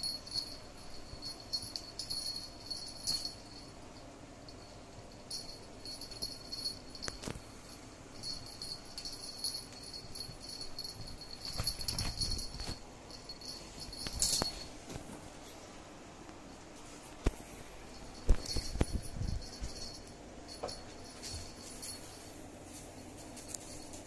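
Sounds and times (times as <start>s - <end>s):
collar bells jingling: 0.0s - 14.8s, 17.9s - 24.0s.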